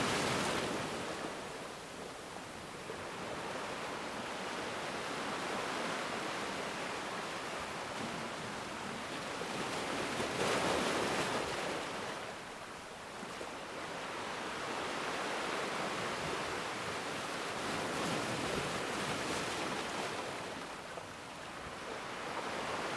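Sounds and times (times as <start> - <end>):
ocean waves breaking on shore: 0.0 - 22.9.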